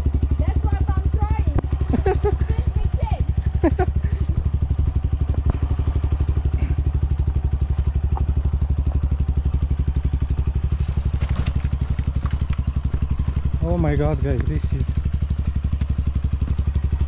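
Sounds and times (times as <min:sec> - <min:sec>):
dirt bike engines running: 0:00.0 - 0:17.0.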